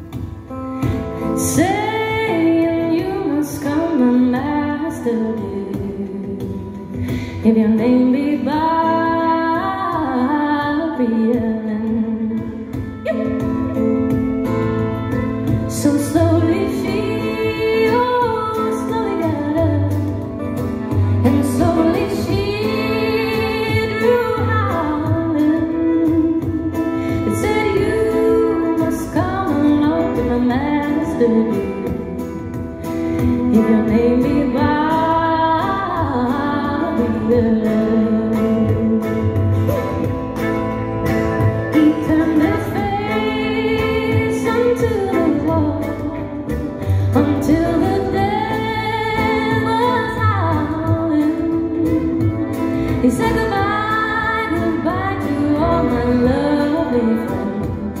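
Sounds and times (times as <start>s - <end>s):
woman singing: 0.0s - 40.4s, 41.2s - 58.0s
folk band playing: 11.2s - 58.0s.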